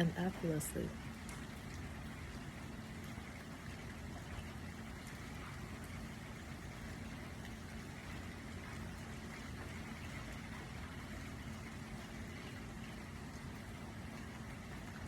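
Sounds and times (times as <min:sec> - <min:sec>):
rain on ground and roof: 0:00.0 - 0:15.0.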